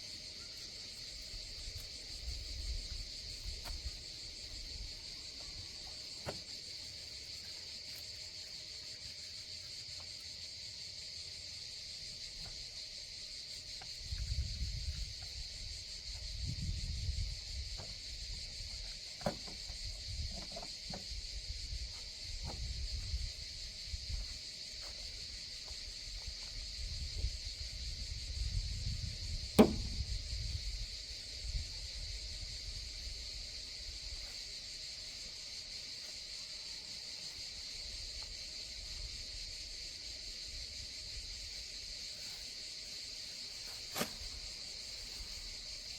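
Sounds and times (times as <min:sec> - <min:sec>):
insects chorus: 0:00.0 - 0:45.9.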